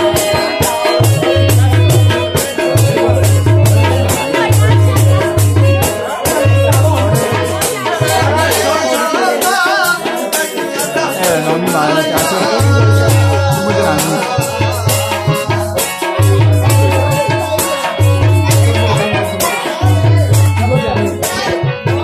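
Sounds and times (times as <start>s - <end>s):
hand drum deep beat: 0.0s - 10.3s, 11.0s - 22.0s
fast rattling percussion: 0.0s - 22.0s
person singing folk song: 0.0s - 22.0s.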